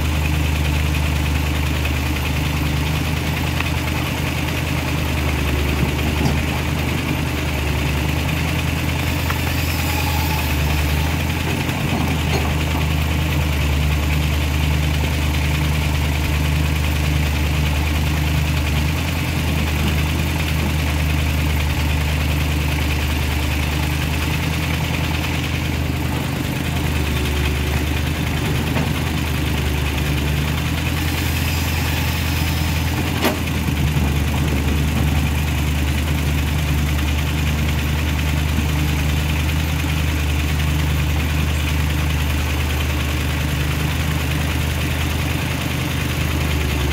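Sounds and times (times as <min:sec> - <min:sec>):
vehicle engine idling: 0:00.0 - 0:46.9.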